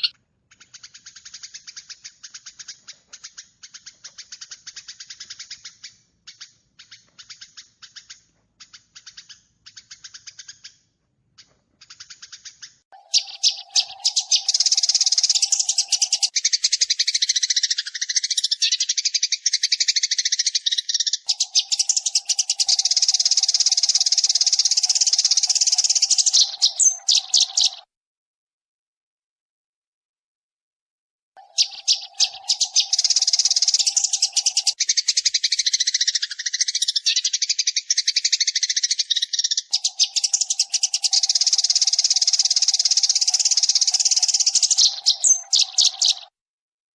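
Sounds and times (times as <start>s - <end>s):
dense sparrow chattering: 0.0s - 27.9s, 31.4s - 46.3s
sparrow chirps: 0.0s - 27.9s, 31.4s - 46.4s.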